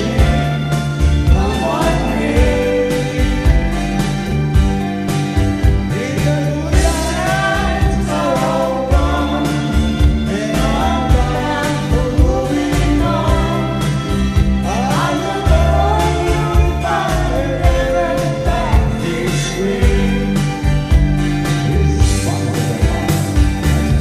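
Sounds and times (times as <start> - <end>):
backing track with steady beat: 0.0 - 24.0
karaoke singing: 0.0 - 24.0.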